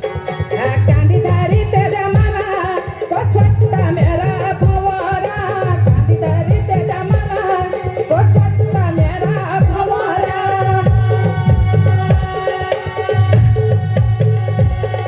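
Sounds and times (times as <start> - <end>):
drum strokes: 0.0 - 15.0.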